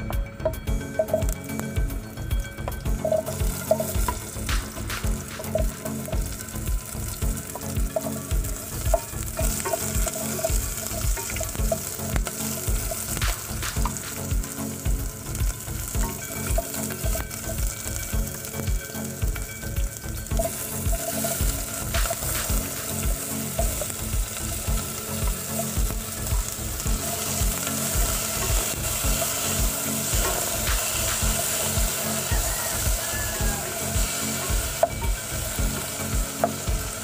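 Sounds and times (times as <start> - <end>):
garlic and onion sizzling: 0.0 - 37.0.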